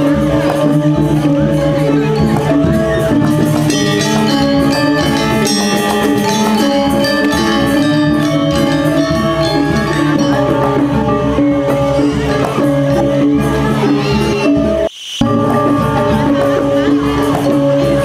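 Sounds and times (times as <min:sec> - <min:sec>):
gamelan playing: 0:00.0 - 0:18.0.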